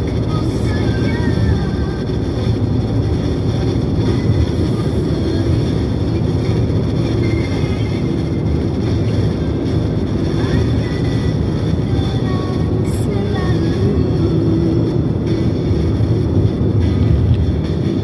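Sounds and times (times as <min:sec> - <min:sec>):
car road and engine rumble: 0:00.0 - 0:18.0
song playing faintly: 0:00.0 - 0:18.0.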